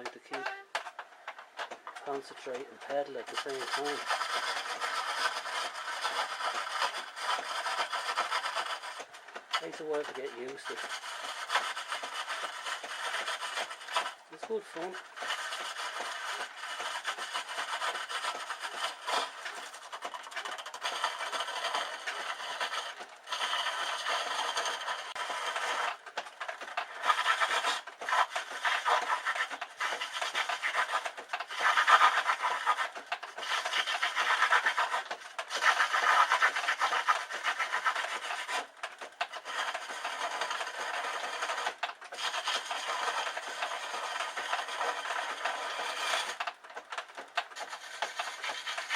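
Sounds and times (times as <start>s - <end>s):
gouge scraping spinning wood: 0.0s - 48.9s.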